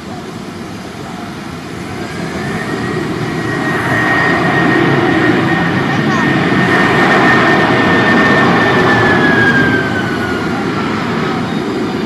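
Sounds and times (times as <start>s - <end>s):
high engine whine: 0.0s - 12.0s
jet engines roaring: 0.0s - 12.0s.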